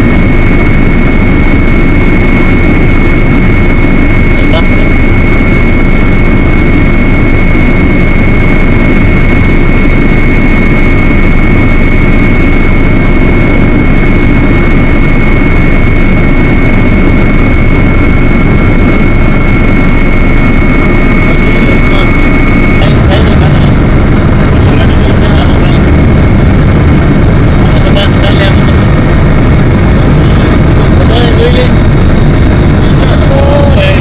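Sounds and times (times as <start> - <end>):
aircraft cabin drone: 0.0 - 34.0
high whine: 0.0 - 34.0.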